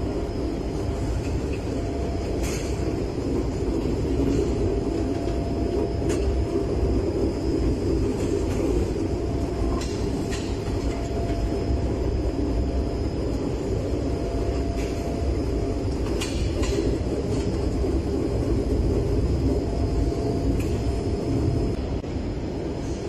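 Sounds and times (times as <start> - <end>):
faint steady whine: 0.0 - 23.0
low mechanical rumble: 0.0 - 23.0.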